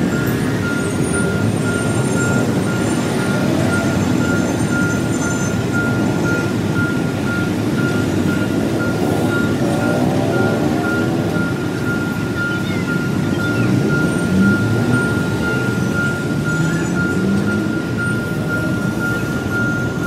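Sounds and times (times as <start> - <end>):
level crossing warning beeps: 0.0 - 20.0
road traffic idling and moving: 0.0 - 20.0.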